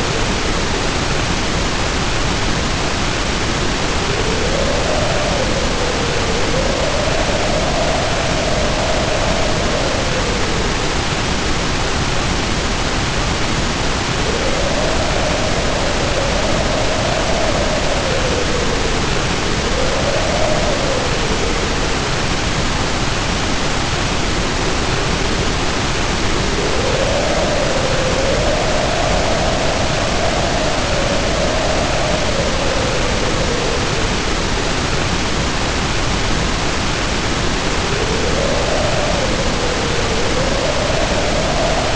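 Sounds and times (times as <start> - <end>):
heavy rain pouring: 0.0 - 41.9
wind howling: 0.0 - 41.9.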